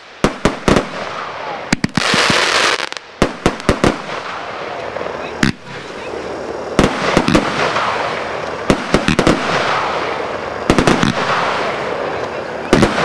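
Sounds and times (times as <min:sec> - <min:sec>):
fireworks sharp reports: 0:00.0 - 0:13.0
fireworks stars bursting: 0:00.0 - 0:13.0.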